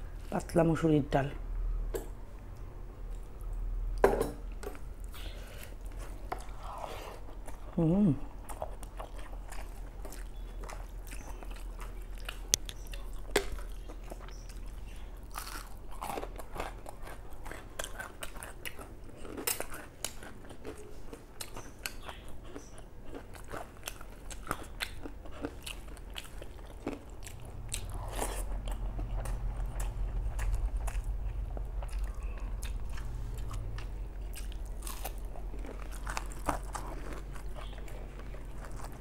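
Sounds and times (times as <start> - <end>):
person chewing food: 4.4 - 39.0.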